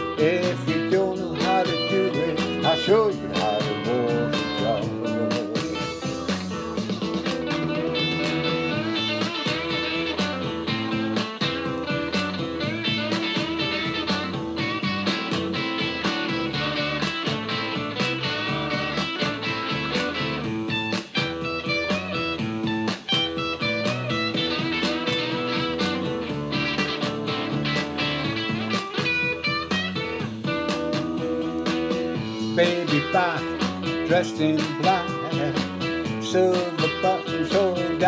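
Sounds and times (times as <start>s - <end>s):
blues-rock guitar: 0.0s - 38.0s
steady drum beat: 0.0s - 38.0s.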